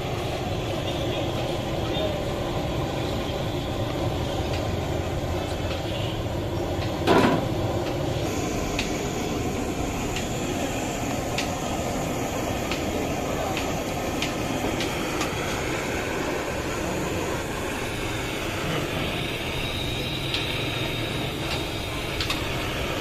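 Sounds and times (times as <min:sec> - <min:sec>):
hot oil sizzling: 0:00.0 - 0:23.0
street market noise: 0:00.0 - 0:23.0.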